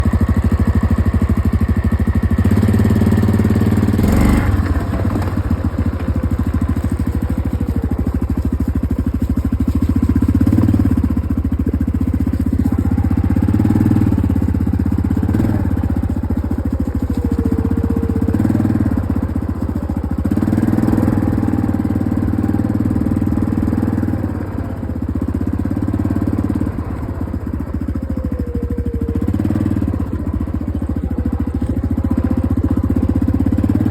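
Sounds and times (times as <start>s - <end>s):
atv engine idling: 0.0s - 33.9s.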